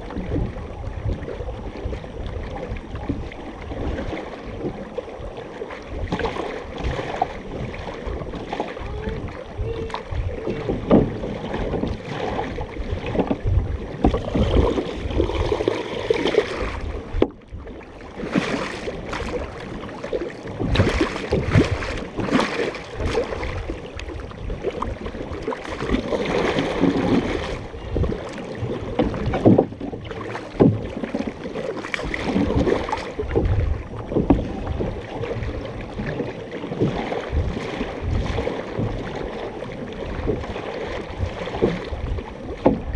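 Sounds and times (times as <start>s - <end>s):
paddles dipping in water: 0.0s - 42.9s
water splashing: 0.0s - 42.9s
water washing along hull: 0.0s - 42.9s.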